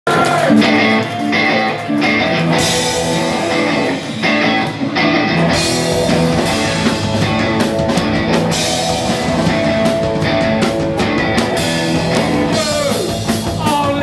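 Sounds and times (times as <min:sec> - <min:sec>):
punk rock band playing live: 0:00.1 - 0:14.0.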